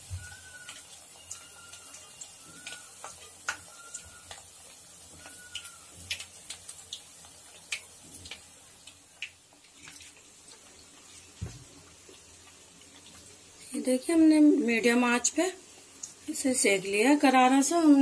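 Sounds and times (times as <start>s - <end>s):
oil crackling and popping: 0.0s - 13.8s, 15.6s - 16.4s
dough sizzling in hot oil: 0.0s - 18.0s.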